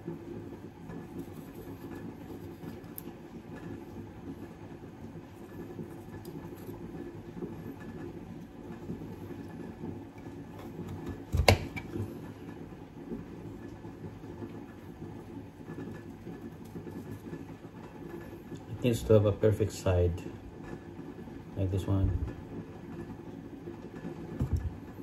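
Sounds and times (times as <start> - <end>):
kitchen background rumble: 0.0 - 25.0.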